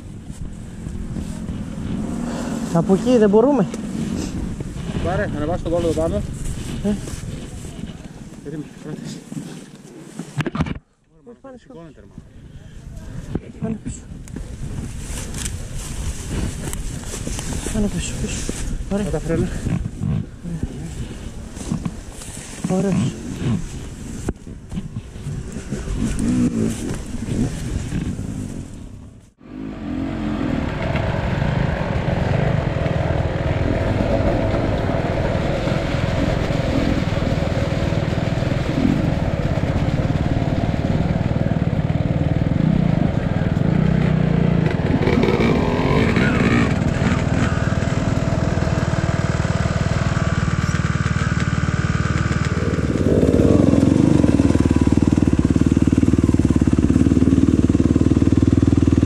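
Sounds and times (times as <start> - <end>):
dirt bike engine running: 0.0 - 8.1, 14.3 - 59.0.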